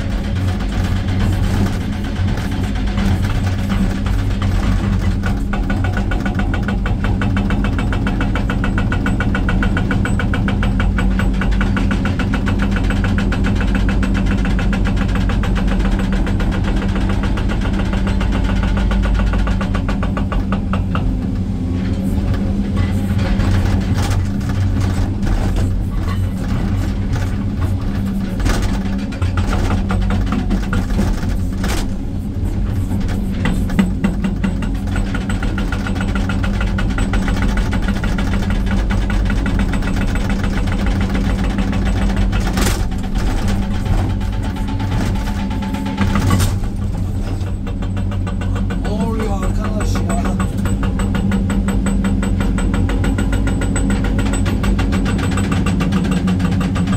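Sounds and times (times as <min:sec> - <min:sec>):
diesel engine running: 0:00.0 - 0:56.9
hydraulic breaker hammering rock: 0:00.0 - 0:56.9.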